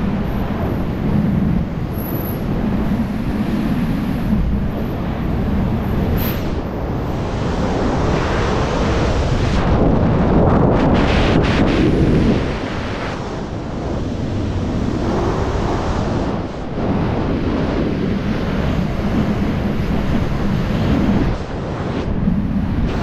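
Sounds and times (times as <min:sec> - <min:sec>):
wind roaring over microphone: 0:00.0 - 0:23.0.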